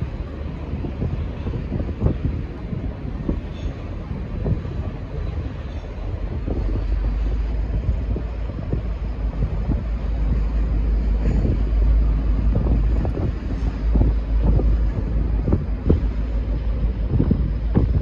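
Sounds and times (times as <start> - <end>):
diesel train rumble: 0.0 - 18.0
wind buffeting microphone: 0.0 - 18.0.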